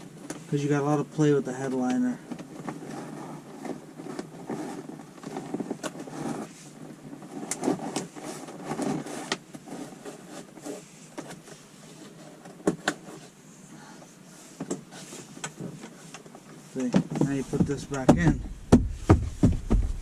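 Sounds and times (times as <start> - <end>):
rustling handling noise: 0.0 - 20.0.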